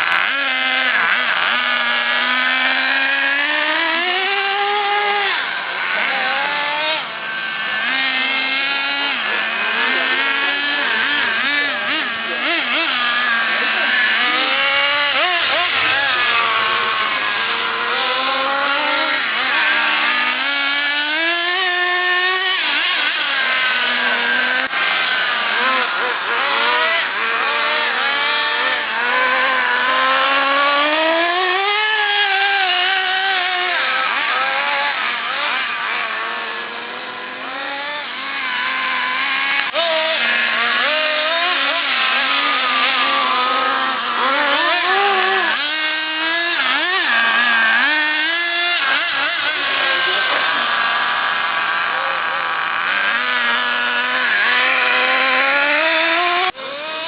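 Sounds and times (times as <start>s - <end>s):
radio-controlled car engines revving: 0.0s - 57.0s.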